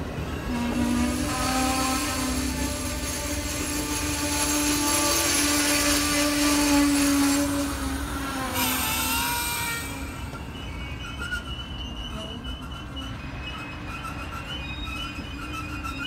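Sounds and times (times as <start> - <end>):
rolling hiss of train cars: 0.0 - 16.0
train wheels squealing on rails: 0.0 - 16.0.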